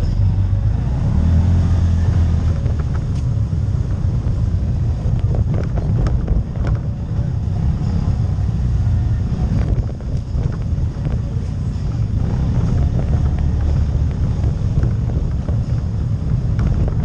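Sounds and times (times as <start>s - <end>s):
quad bike engine running: 0.0s - 17.0s
knocks and rattles from vehicle: 2.1s - 17.0s.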